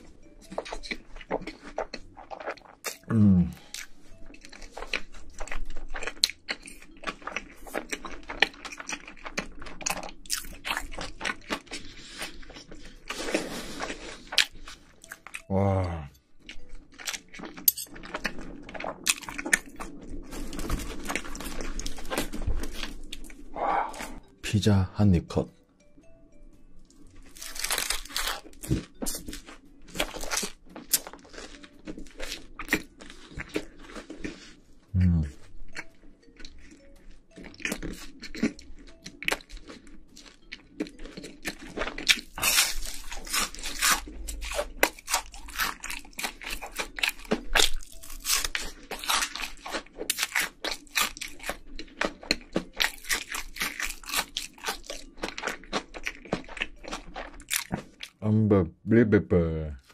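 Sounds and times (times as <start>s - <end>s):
person chewing crunchy food: 0.0s - 24.4s, 26.8s - 58.2s.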